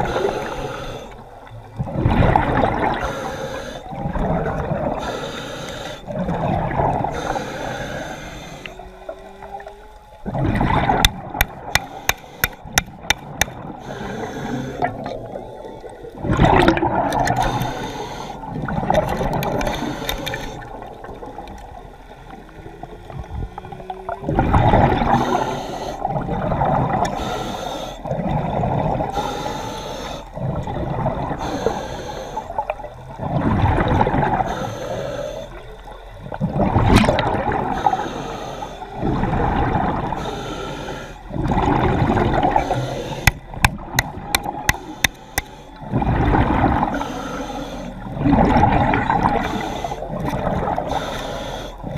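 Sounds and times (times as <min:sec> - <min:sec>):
diver breathing underwater: 0:00.0 - 0:21.4, 0:22.5 - 0:51.9
bubbling and gurgling: 0:00.0 - 0:27.3, 0:28.0 - 0:29.3, 0:30.3 - 0:38.1, 0:38.8 - 0:40.4, 0:41.2 - 0:51.2.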